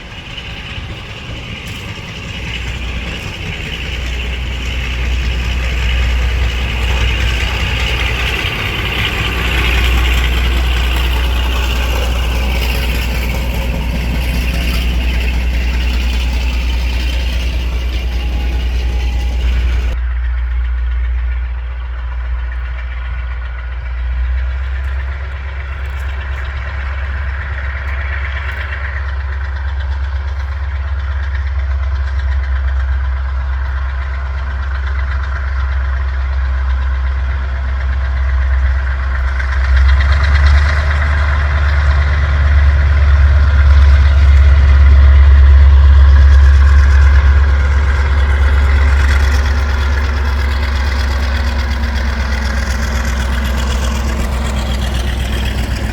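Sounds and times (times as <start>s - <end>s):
diesel locomotive engine drone: 0.0s - 55.9s.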